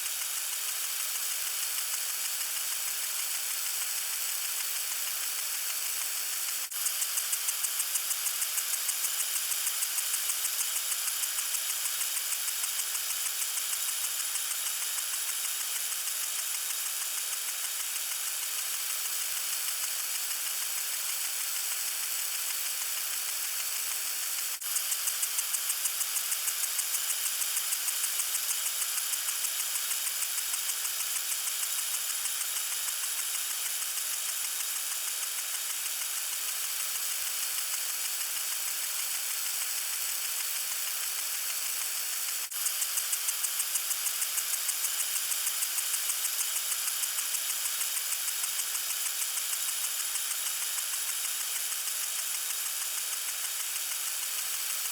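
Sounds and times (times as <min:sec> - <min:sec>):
water sprinkler spraying: 0:00.0 - 0:54.9.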